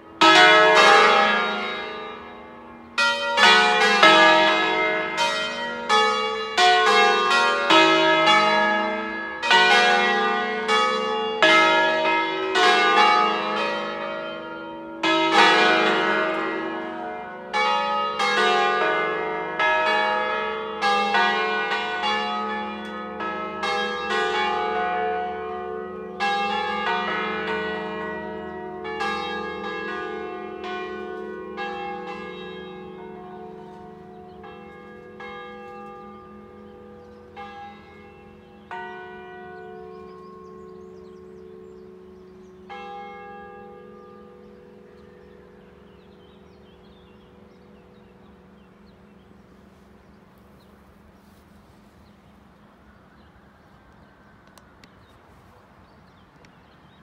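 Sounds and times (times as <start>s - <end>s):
church bells pealing: 0.0s - 56.1s.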